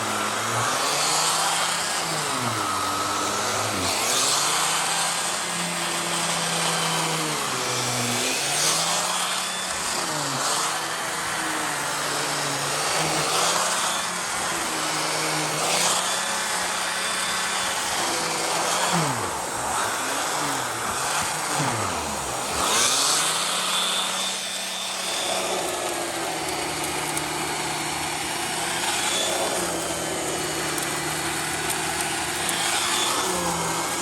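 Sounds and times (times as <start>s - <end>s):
turbo tool hum: 0.0s - 34.0s
vacuum cleaner running: 0.0s - 34.0s.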